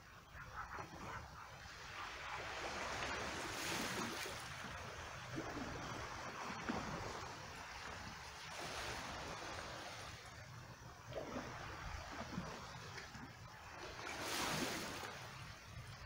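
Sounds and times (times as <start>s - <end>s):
small waves washing over rocks: 2.5s - 15.6s.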